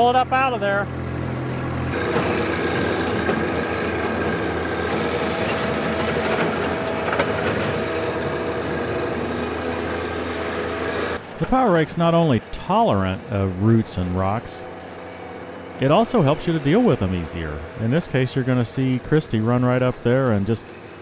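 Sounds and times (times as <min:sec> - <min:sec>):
tractor running under load: 0:00.0 - 0:21.0
power rake spinning through soil: 0:00.1 - 0:21.0.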